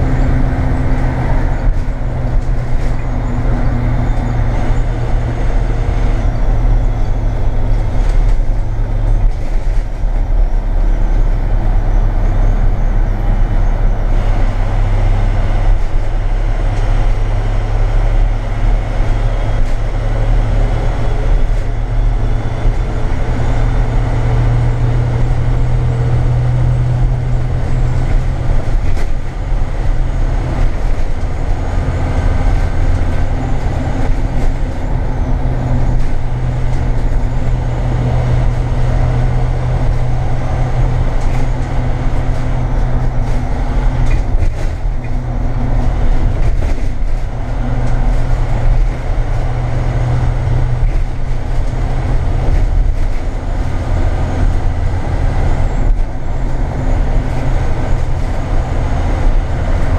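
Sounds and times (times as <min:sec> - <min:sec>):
light cabin rattles: 0:00.0 - 0:11.2, 0:18.1 - 0:59.9
diesel engine running under load: 0:00.0 - 0:59.9
road and tyre noise: 0:00.0 - 0:59.9.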